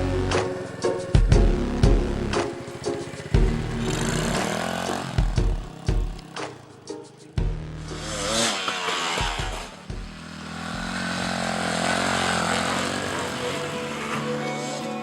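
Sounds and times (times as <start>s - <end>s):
dirt bike engine running: 0.0s - 14.4s.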